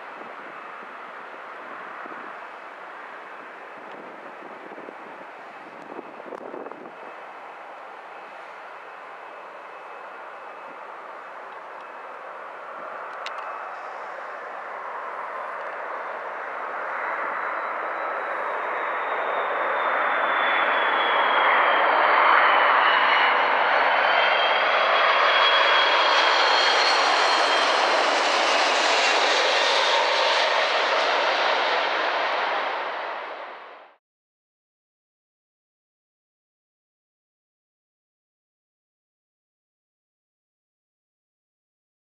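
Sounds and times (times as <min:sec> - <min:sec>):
jet airliner engine roar: 0:00.0 - 0:34.0.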